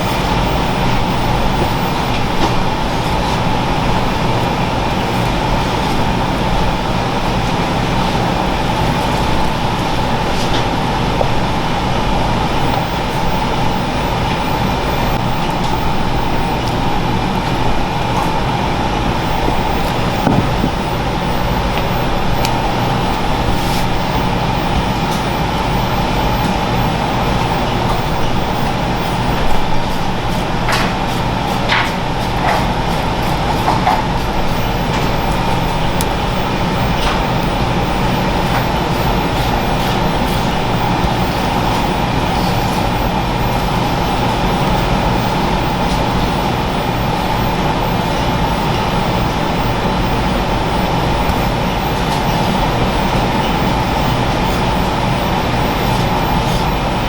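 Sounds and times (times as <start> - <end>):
rushing machine noise with hum: 0.0 - 57.0.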